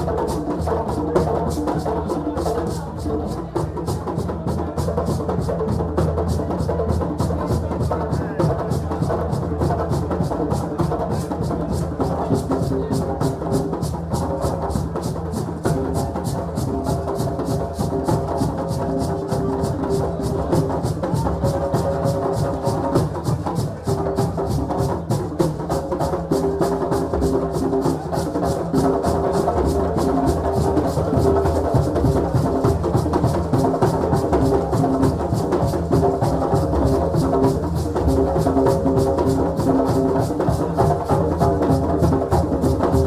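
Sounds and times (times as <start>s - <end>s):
percussion ensemble drumming: 0.0s - 43.0s.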